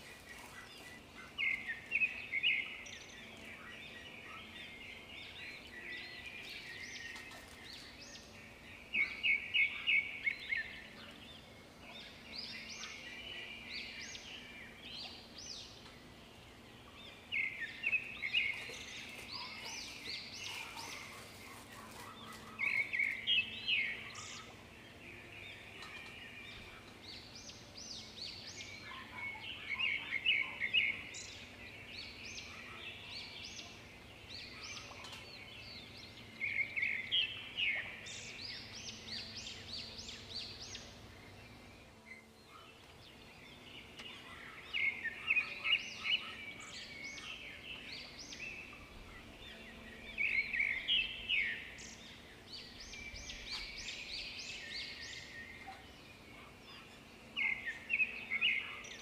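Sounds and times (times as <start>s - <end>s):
bird chirping and trilling: 0.0s - 59.0s
faint steady hum: 0.0s - 59.0s.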